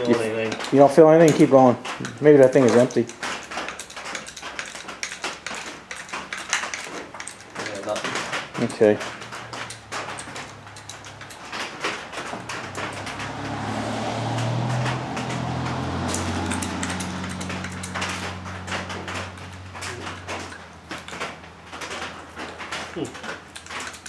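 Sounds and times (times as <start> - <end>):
hydraulic hand pump clicking: 0.1 - 13.0, 16.1 - 24.0.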